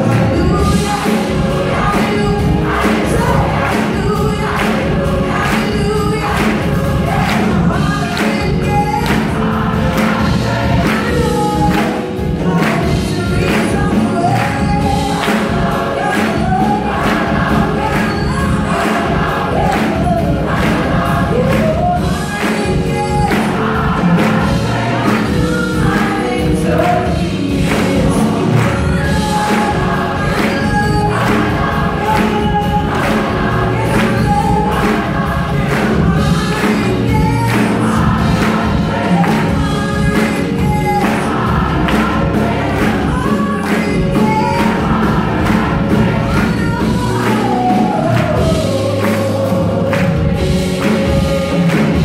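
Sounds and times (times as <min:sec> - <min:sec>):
drum kit beat: 0:00.0 - 0:52.0
electric bass: 0:00.0 - 0:52.0
gospel choir singing: 0:00.0 - 0:52.0.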